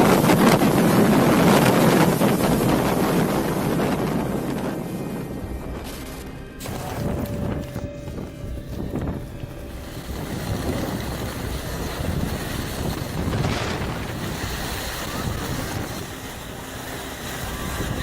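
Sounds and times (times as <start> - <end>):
storm wind blowing: 0.0 - 18.0.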